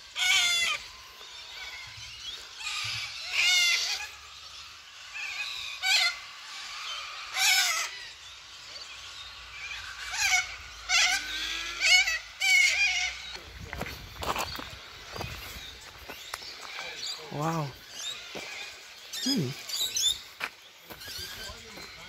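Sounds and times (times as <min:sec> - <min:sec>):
cockatoos screeching: 0:00.0 - 0:22.0.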